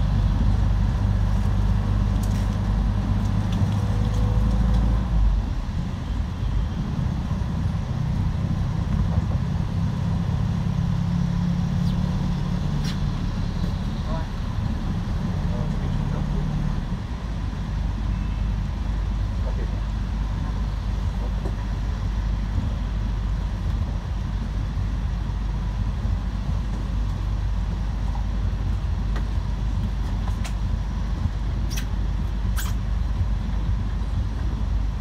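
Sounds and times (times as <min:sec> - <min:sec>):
vehicle rumble on wet street: 0:00.0 - 0:35.0.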